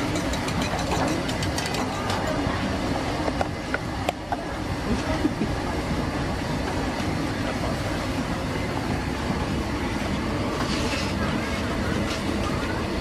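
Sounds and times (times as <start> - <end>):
gas burner roaring: 0.0 - 13.0.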